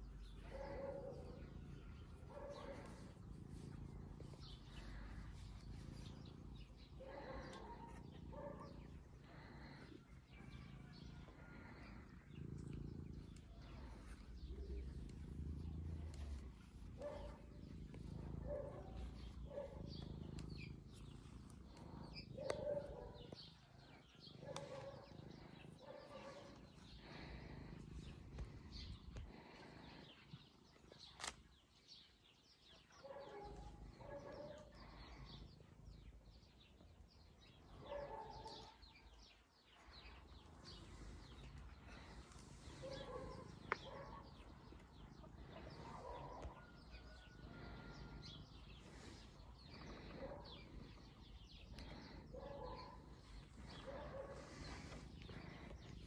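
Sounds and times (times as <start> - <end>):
cat purring: 0.0 - 31.0, 32.9 - 56.0
small birds chirping: 0.0 - 56.0.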